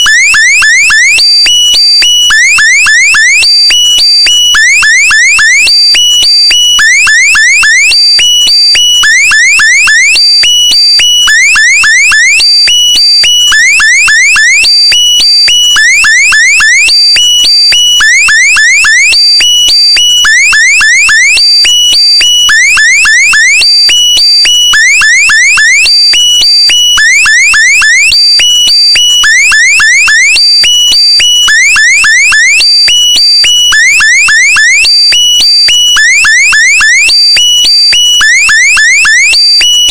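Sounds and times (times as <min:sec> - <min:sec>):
electronic alarm chirps and beeps: 0:00.0 - 0:39.9.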